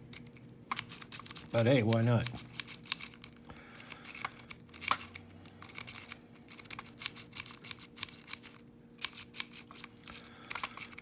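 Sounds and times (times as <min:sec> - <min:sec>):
lock pick scraping and clicking: 0:00.1 - 0:11.0.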